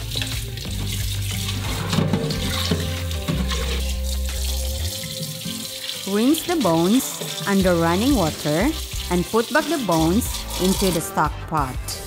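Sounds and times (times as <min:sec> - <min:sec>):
water splashing on bones: 0:00.0 - 0:11.0
tap water running into sink: 0:00.0 - 0:11.1.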